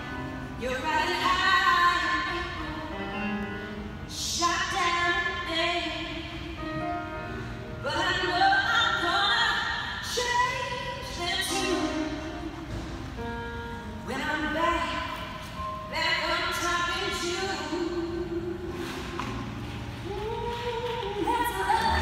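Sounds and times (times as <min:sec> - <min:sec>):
music with singing voice: 0:00.0 - 0:22.0.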